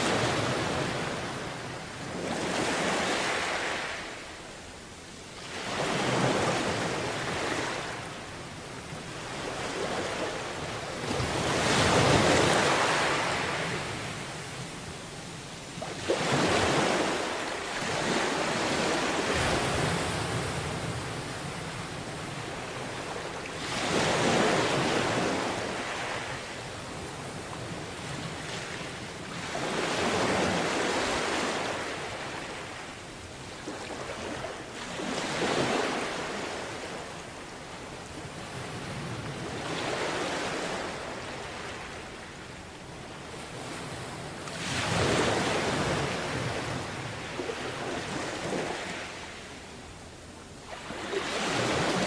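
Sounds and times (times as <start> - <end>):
sea waves washing onto beach: 5.6 - 49.6.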